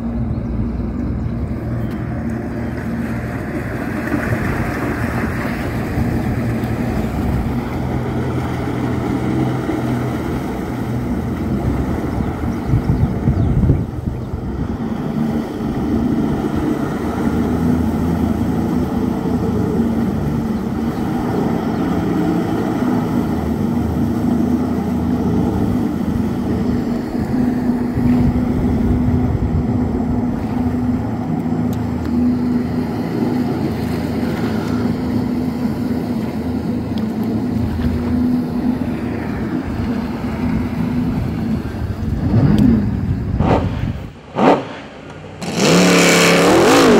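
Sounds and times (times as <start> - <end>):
jet boat engine running: 0.0 - 46.9.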